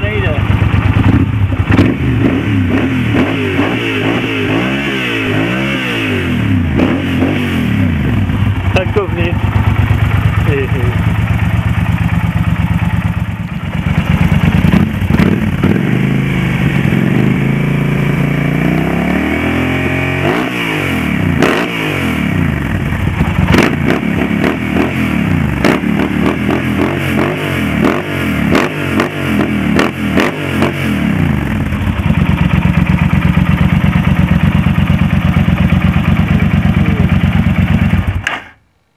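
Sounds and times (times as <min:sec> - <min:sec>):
motorcycle engine revving: 0:00.0 - 0:38.6.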